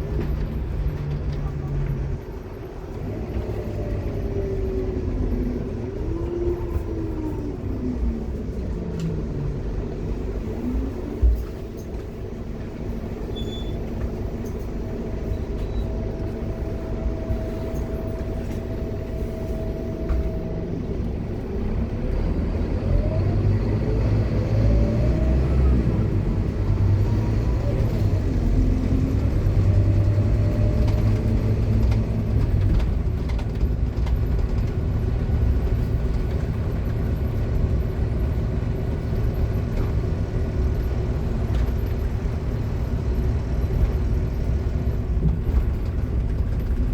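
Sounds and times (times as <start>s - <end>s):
bus engine running: 0.0s - 46.9s.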